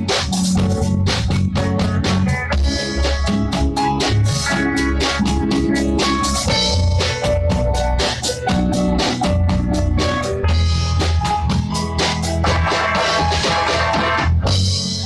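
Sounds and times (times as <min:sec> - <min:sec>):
drum kit beat: 0:00.0 - 0:15.0
rock band instrumental: 0:00.0 - 0:15.0.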